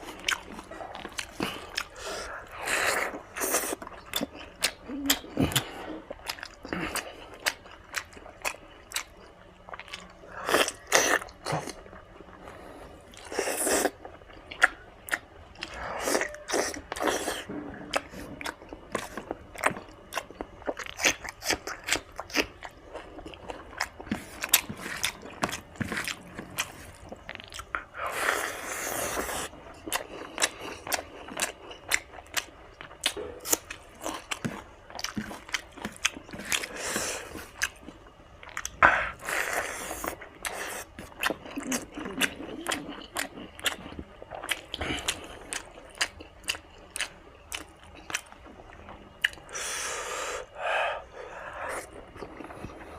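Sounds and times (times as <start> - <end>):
wet chewing and mouth smacks: 0.1 - 11.8, 13.1 - 28.4, 29.0 - 49.6.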